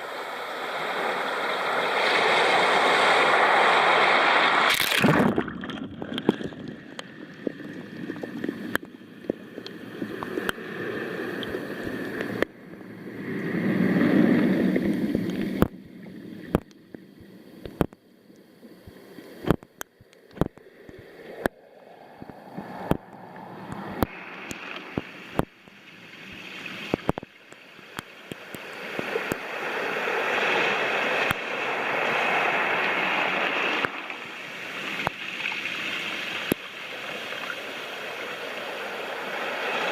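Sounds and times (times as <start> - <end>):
waves washing over pebbles: 0.0 - 15.8, 20.4 - 39.9.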